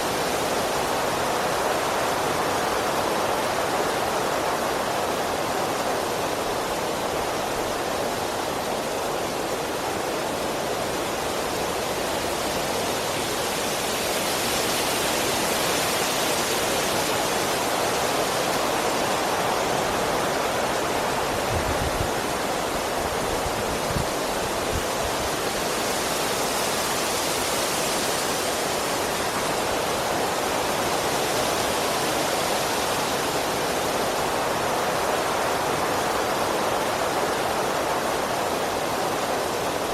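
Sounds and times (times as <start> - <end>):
wind blowing through trees: 0.0 - 39.9.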